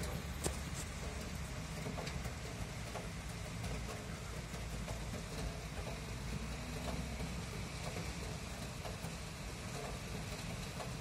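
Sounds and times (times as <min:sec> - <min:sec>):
distant traffic rumble: 0:00.0 - 0:11.0
steady rain: 0:00.0 - 0:11.0
ticks of raindrops: 0:00.0 - 0:11.0.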